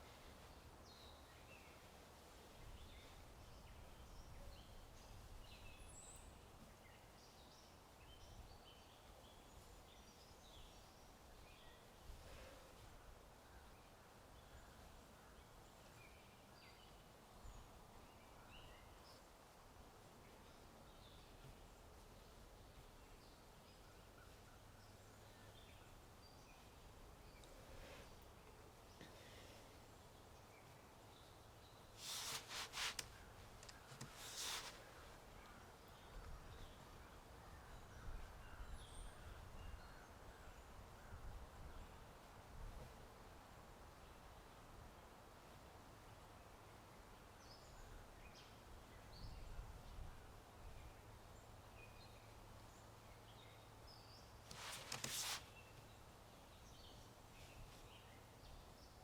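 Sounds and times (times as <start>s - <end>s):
faint birds chirping: 0.0s - 59.0s
steady background hiss: 0.0s - 59.0s.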